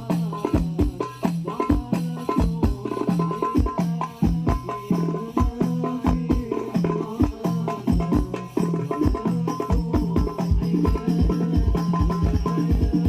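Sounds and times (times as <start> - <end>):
frame drums: 0.0 - 13.0
jingling percussion: 0.0 - 13.0.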